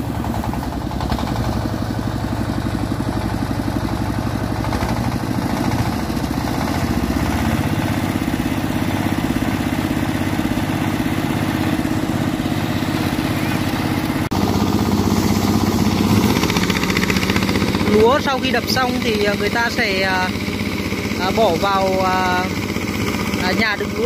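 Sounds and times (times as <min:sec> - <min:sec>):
tractor engine chugging: 0:00.0 - 0:24.0.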